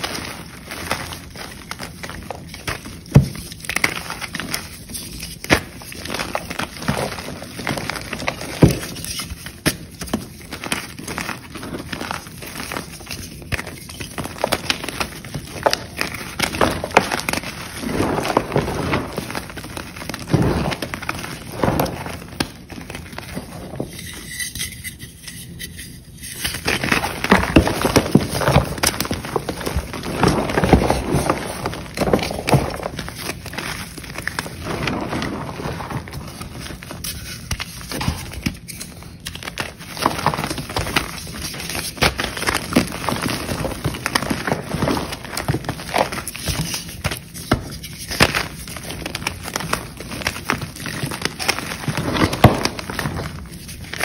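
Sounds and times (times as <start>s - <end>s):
chalk crunching and crackling: 0.0s - 54.0s.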